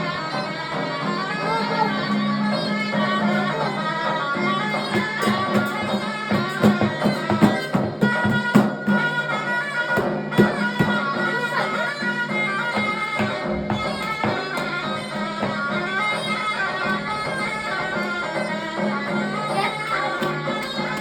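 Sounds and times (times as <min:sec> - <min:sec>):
davul drum strokes: 0:00.0 - 0:21.0
zurna melody over drone: 0:00.0 - 0:21.0.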